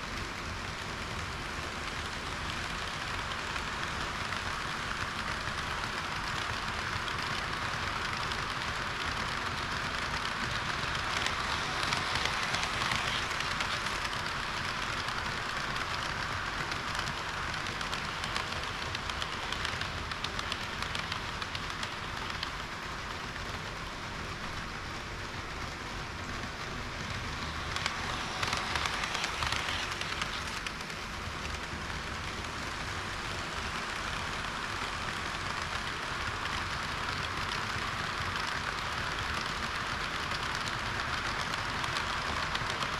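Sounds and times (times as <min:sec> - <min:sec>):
model train wheels hissing on rails: 0:00.0 - 0:42.9.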